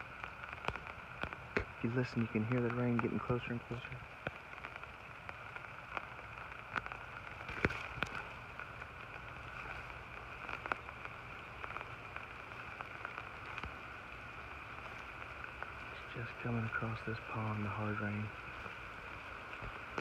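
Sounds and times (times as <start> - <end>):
distant hiss of hard rain: 0.0 - 20.0
sharp ticks of rain: 0.0 - 20.0.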